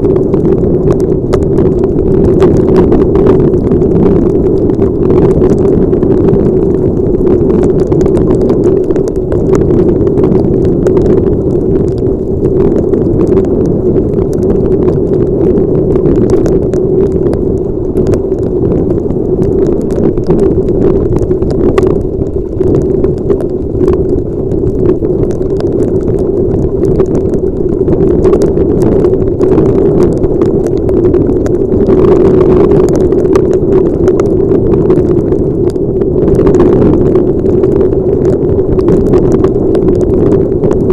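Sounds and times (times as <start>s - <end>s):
raindrops ticking on helmet: 0.0s - 40.9s
wind rush through helmet: 0.0s - 40.9s.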